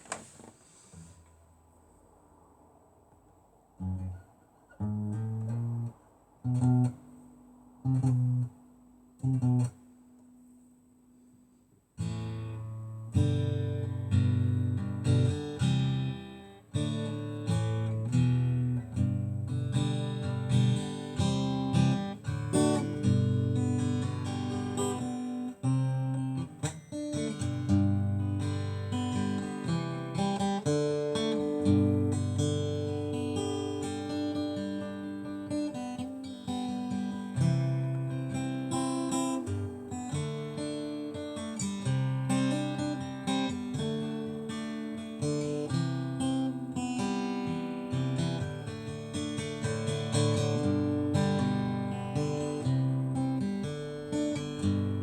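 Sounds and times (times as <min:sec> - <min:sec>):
acoustic guitar strumming and picking: 0:04.8 - 0:08.6, 0:09.2 - 0:09.8, 0:12.0 - 0:55.0.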